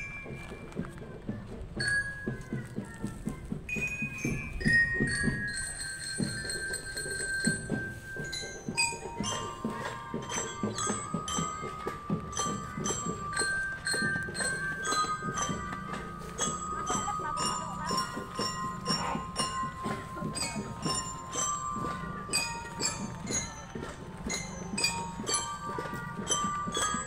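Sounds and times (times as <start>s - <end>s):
drums on a steady beat: 0.0s - 27.0s
glockenspiel notes ringing: 0.0s - 27.0s
held melody line: 0.0s - 27.0s.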